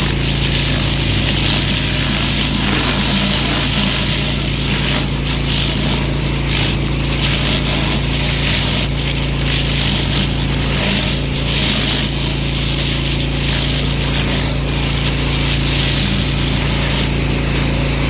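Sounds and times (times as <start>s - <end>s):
pressure washer spraying: 0.0s - 18.0s.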